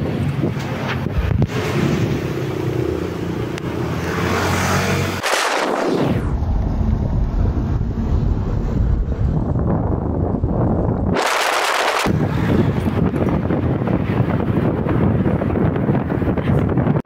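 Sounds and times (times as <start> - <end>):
vehicle engine hum: 0.0 - 16.8
wind rushing over microphone: 0.0 - 17.0.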